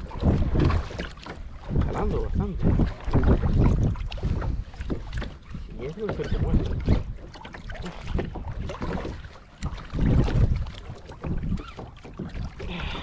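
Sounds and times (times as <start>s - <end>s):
water slapping plastic hull: 0.0s - 13.0s
wind buffeting microphone: 0.0s - 13.0s.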